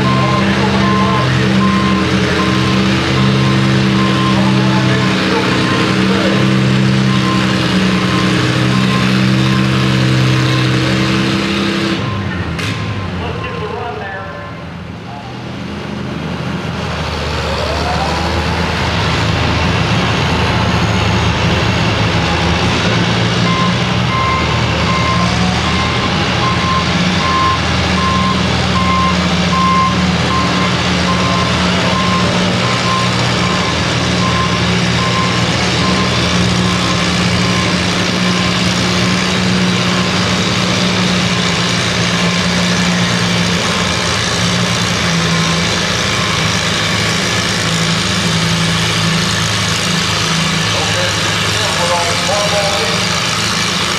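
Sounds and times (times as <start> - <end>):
tractor engine running under load: 0.0 - 53.9.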